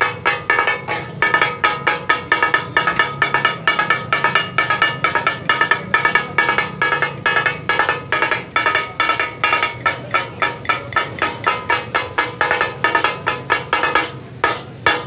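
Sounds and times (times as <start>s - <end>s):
steel blades clanging on griddle: 0.0s - 15.0s.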